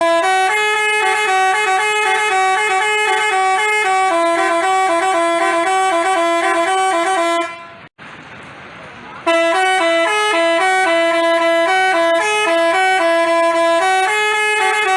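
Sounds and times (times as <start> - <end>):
multi-tone horn melody: 0.0 - 7.9, 9.2 - 14.9.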